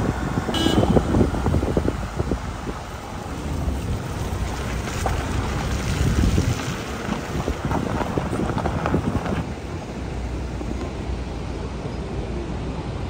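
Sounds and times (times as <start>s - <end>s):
vehicle on gravel road rumbling: 0.0s - 13.0s
wind buffeting microphone: 0.0s - 13.0s.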